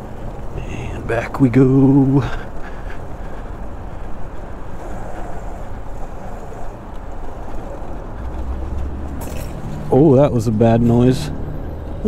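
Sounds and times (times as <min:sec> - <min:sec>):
electric mini bike rumble: 0:00.0 - 0:12.0.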